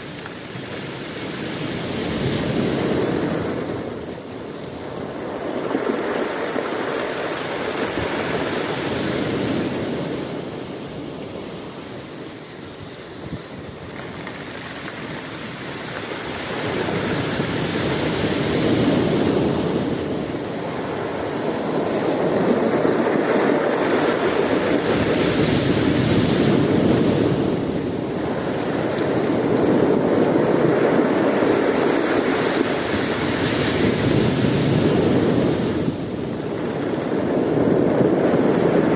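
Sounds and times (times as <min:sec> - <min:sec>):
ocean waves breaking on shore: 0:00.0 - 0:38.9
wind on microphone: 0:00.0 - 0:38.9.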